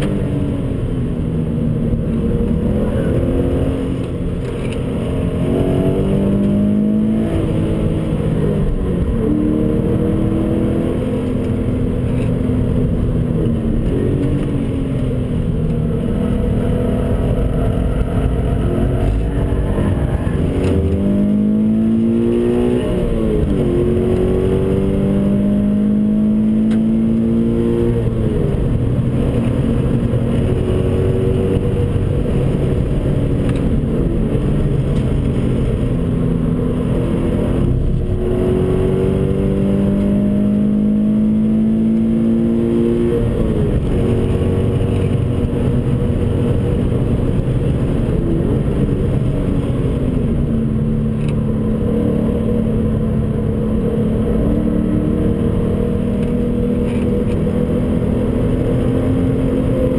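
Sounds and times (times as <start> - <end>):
car engine revving: 0.0 - 59.9
road and wind rumble: 0.0 - 59.9.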